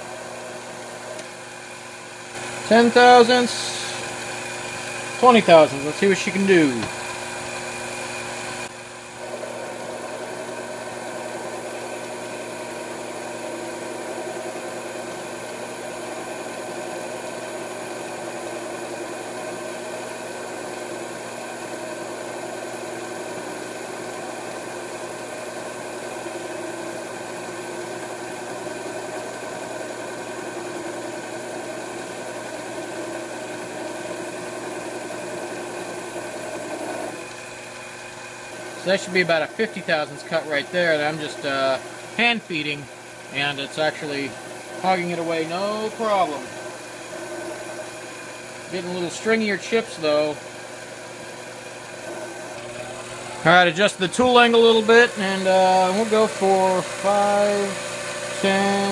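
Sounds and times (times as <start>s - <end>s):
lathe cutting aluminum: 0.0s - 58.9s.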